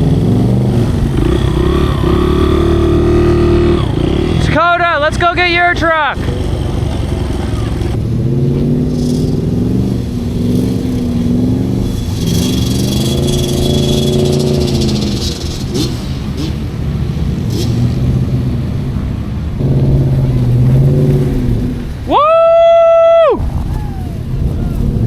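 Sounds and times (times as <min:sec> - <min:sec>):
vehicle engine revving: 0:00.0 - 0:22.2.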